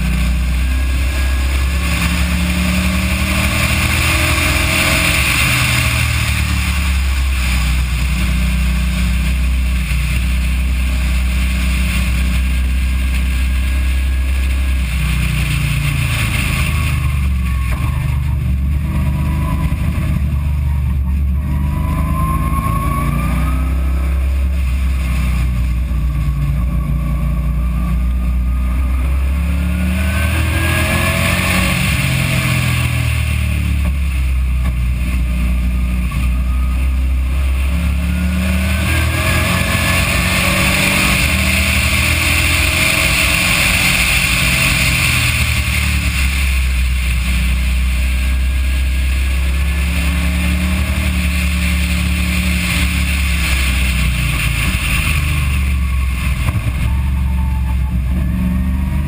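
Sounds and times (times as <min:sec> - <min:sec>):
car engine running: 0:00.0 - 0:59.0
road noise: 0:00.0 - 0:59.0
wind noise: 0:00.0 - 0:59.0.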